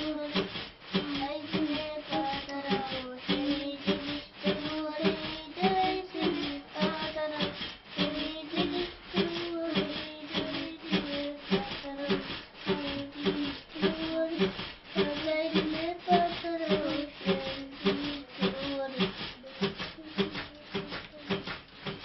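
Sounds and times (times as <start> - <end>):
music with steady beat: 0.0 - 22.0.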